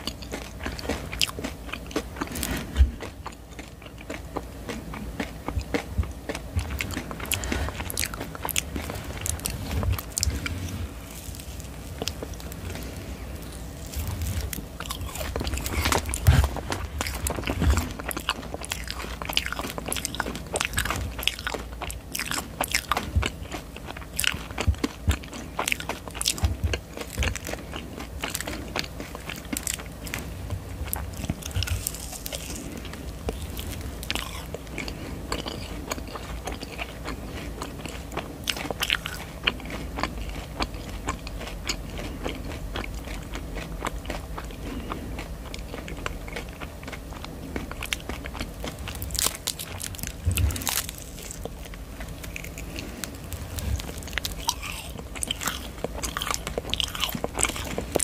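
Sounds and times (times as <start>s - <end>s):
chewing marshmallow: 0.0s - 58.0s.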